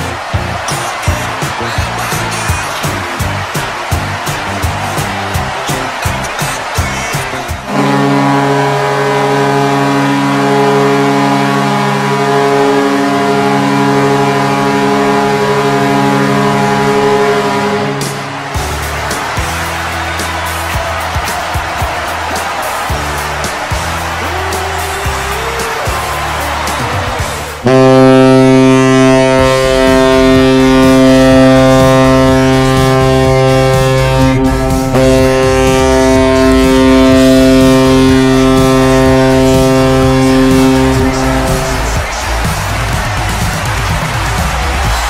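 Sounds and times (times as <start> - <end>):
goal horn blast: 0.0 - 26.9, 27.6 - 45.0.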